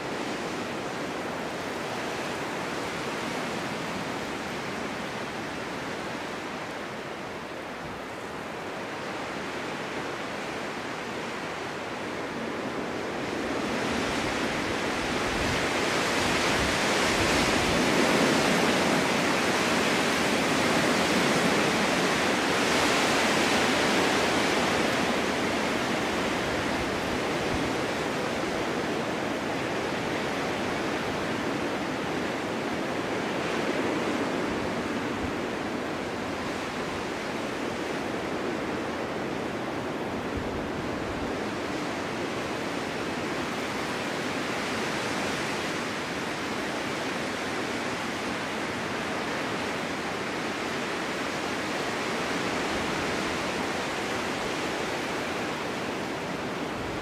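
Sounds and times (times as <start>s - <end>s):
snowstorm wind blowing: 0.0s - 57.0s.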